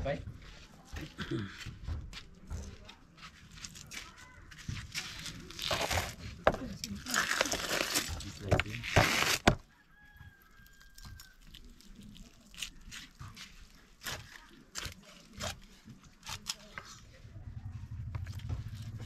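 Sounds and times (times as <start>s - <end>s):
rustling and scraping: 0.1s - 9.7s, 11.0s - 19.0s.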